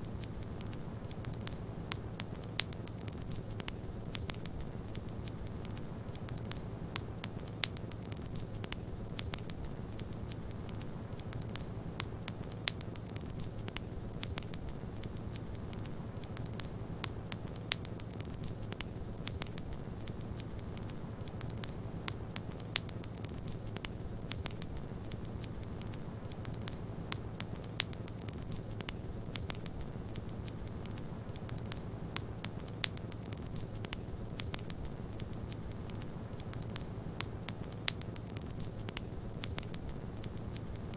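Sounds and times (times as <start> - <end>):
fire popping and snapping: 0.0 - 40.9
wood fire crackling: 0.0 - 40.9
fire low rumble: 0.1 - 40.9.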